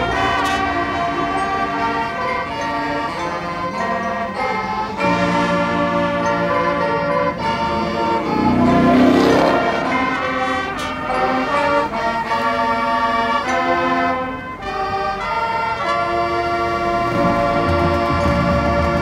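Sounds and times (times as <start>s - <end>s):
marching band playing chords: 0.0s - 19.0s.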